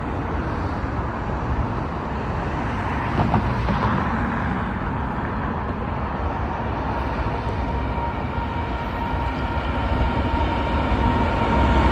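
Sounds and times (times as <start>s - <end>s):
heavy vehicle rumble: 0.0s - 11.9s.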